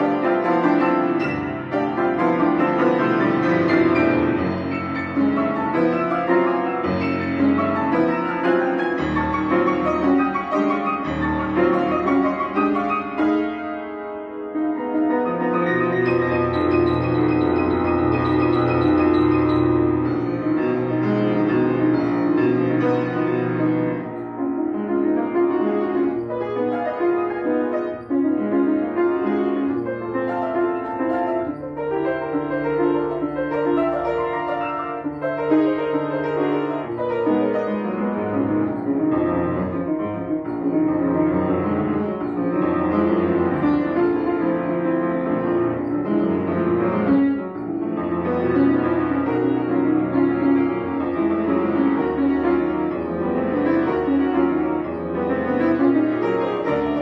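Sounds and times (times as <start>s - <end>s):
fast solo piano piece: 0.0s - 57.0s.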